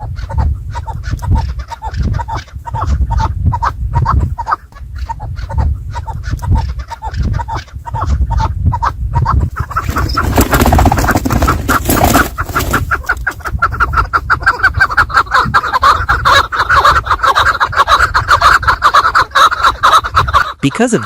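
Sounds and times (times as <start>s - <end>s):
partridge calling: 0.1s - 21.0s.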